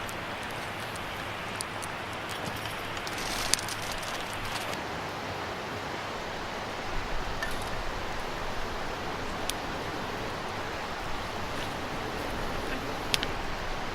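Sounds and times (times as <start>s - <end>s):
campfire crackling and popping: 0.0s - 4.8s, 6.2s - 13.9s
steady rushing noise: 0.0s - 13.9s.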